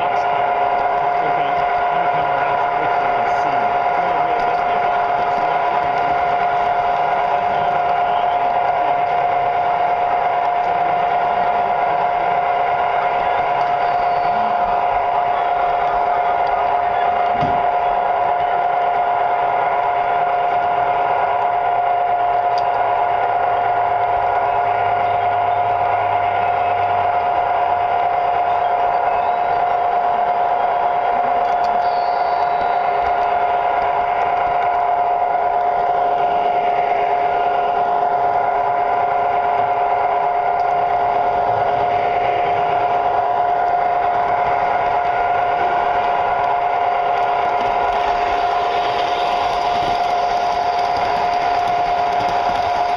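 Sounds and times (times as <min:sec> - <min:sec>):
model train motor whine: 0:00.0 - 0:52.9
wheels running on track: 0:00.0 - 0:52.9.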